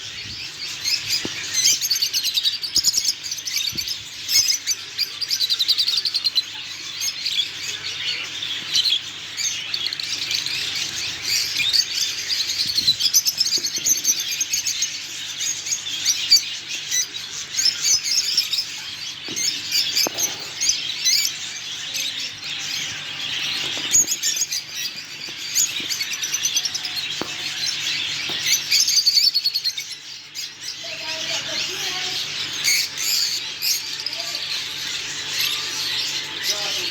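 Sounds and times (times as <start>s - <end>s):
birds chirping and chattering: 0.0s - 36.9s.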